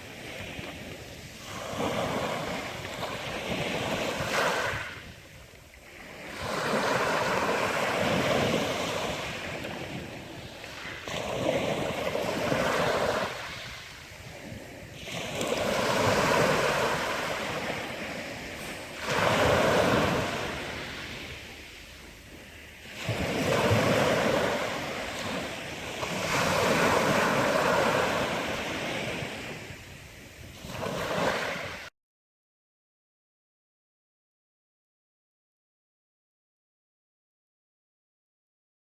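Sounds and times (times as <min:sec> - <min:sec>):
sea waves breaking on shore: 0:00.0 - 0:31.9
wind on microphone: 0:00.0 - 0:31.9.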